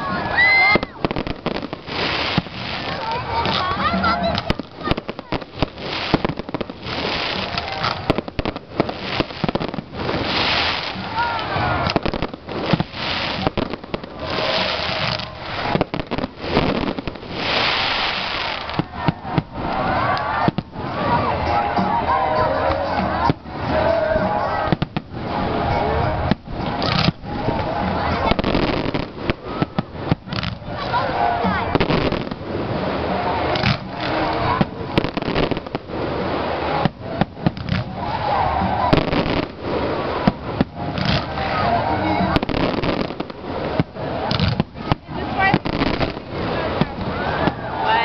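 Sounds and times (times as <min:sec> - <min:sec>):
fireworks bursting with bangs: 0:00.0 - 0:48.0
fireworks crackling: 0:00.0 - 0:48.0.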